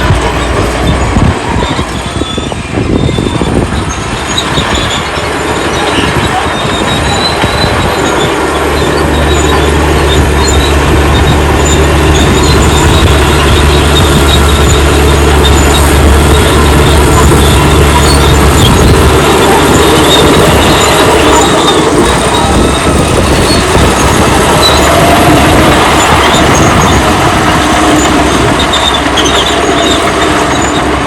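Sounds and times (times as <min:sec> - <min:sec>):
bulldozer engine running: 0:00.0 - 0:31.0
steel tracks squealing and clattering: 0:00.0 - 0:31.0.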